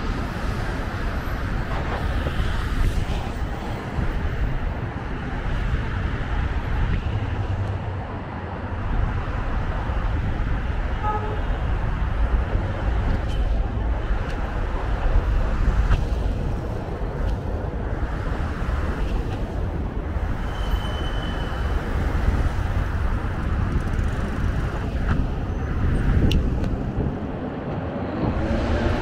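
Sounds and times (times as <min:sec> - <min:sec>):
highway traffic rushing: 0:00.0 - 0:29.0.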